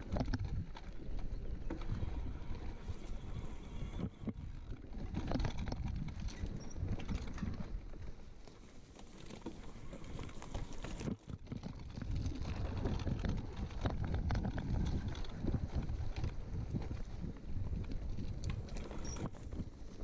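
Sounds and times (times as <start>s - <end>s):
bike rattling over rocks: 0.0s - 3.5s, 4.1s - 20.0s
bike tyre noise: 0.0s - 20.0s
wind rumbling on microphone: 0.0s - 20.0s.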